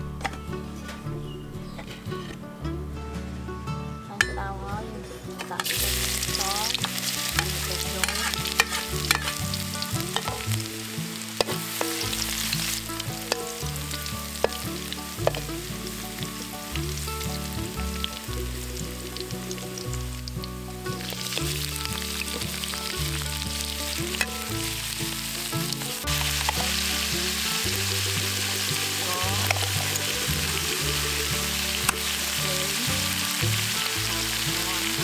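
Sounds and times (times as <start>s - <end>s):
metal spatula scraping wok: 5.0s - 35.0s
garlic sizzling in hot oil: 5.6s - 35.0s.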